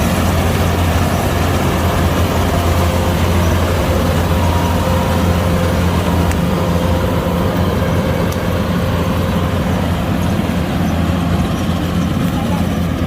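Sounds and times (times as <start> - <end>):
diesel engine humming: 0.0 - 13.0
steady whine: 0.0 - 13.0.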